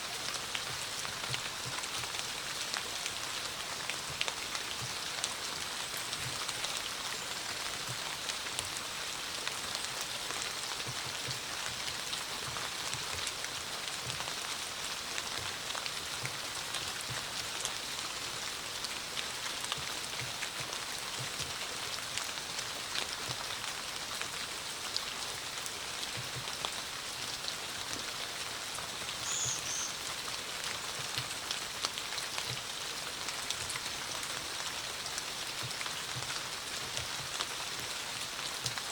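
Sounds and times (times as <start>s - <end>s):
rain drops ticking: 0.0s - 38.9s
dull low drips: 0.1s - 38.9s.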